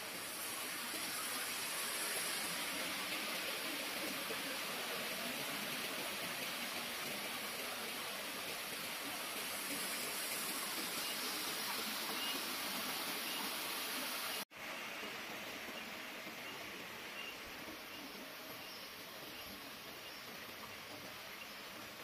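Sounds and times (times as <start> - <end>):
outdoor rushing hiss: 0.0 - 17.8.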